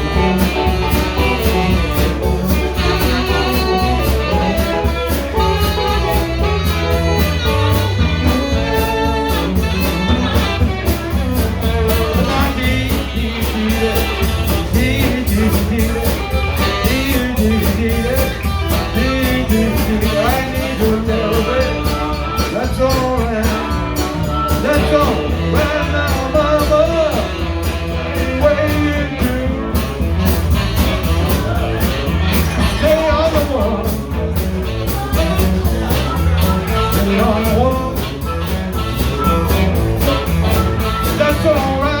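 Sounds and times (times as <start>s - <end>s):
drums: 0.0s - 42.0s
electric guitar: 0.0s - 42.0s
live blues-rock band: 0.0s - 42.0s.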